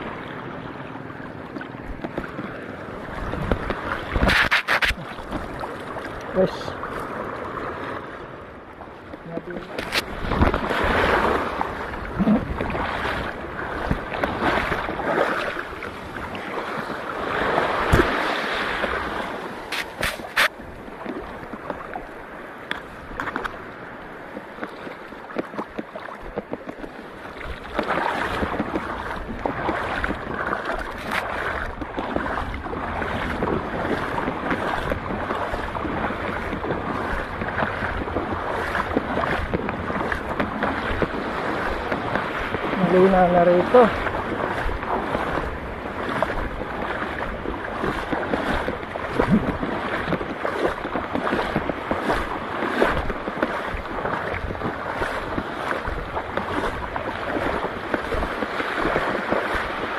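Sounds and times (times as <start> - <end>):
water sloshing and splashing: 0.0 - 59.9
wind buffeting microphone: 1.8 - 8.1, 9.3 - 22.2, 27.4 - 59.9.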